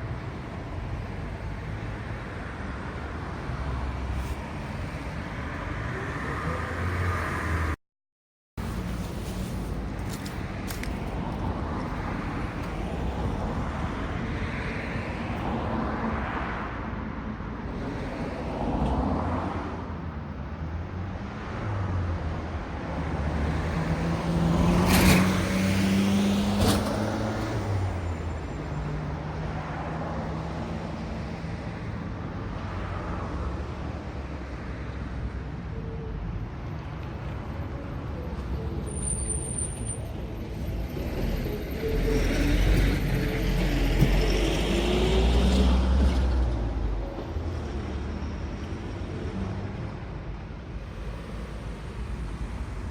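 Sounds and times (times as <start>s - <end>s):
road traffic passing: 0.0s - 7.8s, 8.6s - 52.9s.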